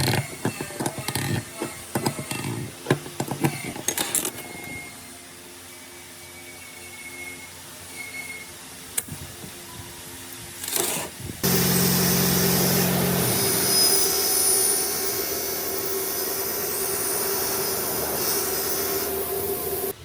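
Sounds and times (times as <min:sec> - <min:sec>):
power tool running with hiss: 0:00.0 - 0:20.0.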